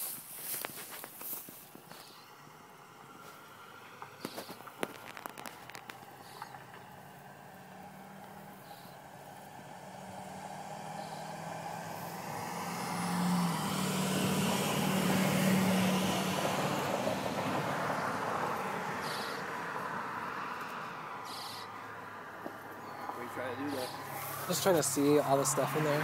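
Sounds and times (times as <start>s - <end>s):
vehicle passing by: 1.2s - 26.0s.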